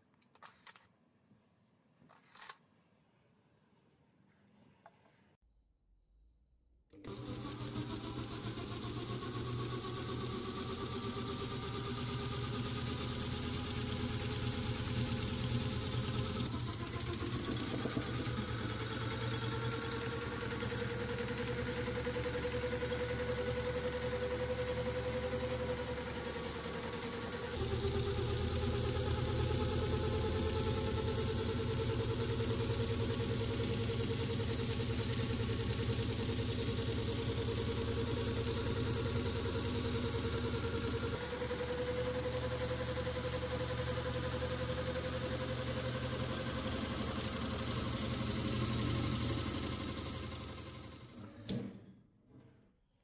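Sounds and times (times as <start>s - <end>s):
jigsaw motor running: 7.0s - 51.2s.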